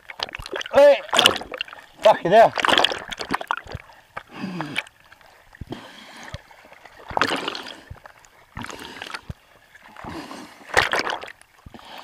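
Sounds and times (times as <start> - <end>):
rush of water: 0.0 - 12.0
sea water splashing: 0.0 - 12.0.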